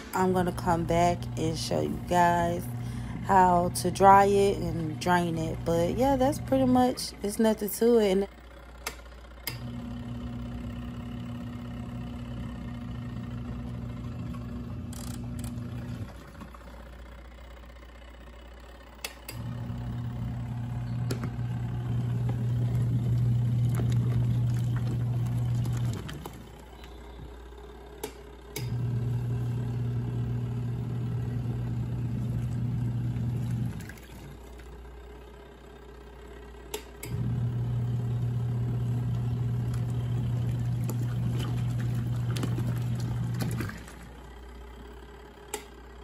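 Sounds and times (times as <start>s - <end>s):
washing machine motor churning: 0.0s - 46.0s.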